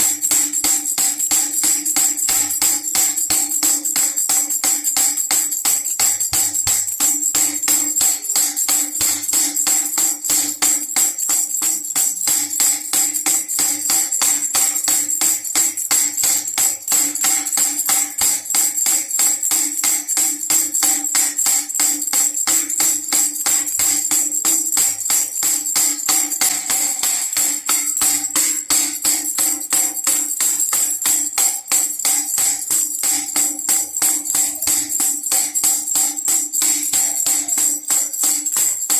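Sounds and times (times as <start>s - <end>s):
baby rattle shaken: 0.0s - 38.9s.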